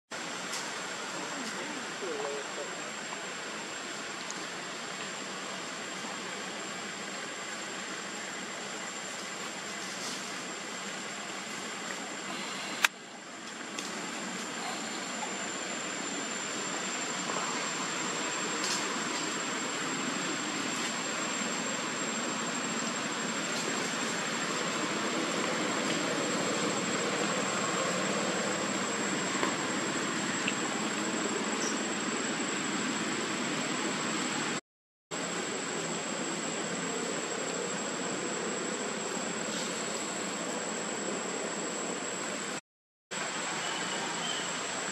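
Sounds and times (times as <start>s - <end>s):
steady hiss: 0.1s - 34.6s, 35.2s - 42.6s
high-pitched whine: 0.1s - 42.6s.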